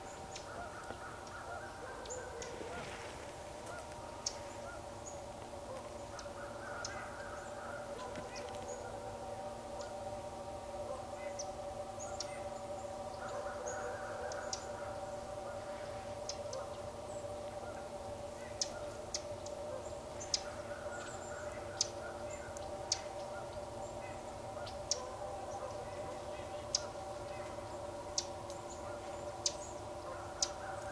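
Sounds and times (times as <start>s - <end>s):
geese honking: 0.0s - 30.9s.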